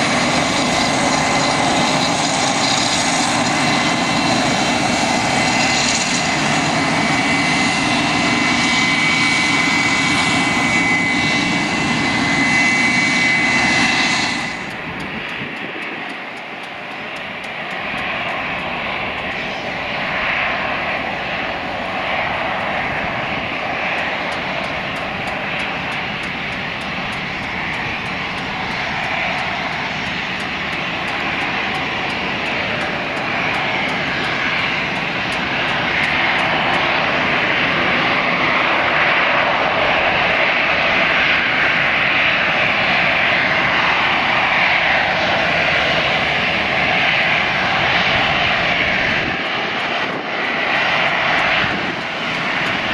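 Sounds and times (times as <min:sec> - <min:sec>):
jet engines taxiing: 0:00.0 - 0:52.9.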